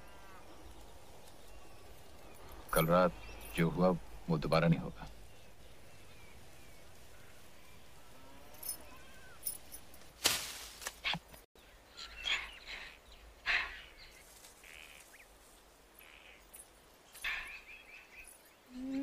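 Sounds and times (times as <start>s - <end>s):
bird calls and chirps: 0.0s - 9.8s, 11.0s - 19.0s.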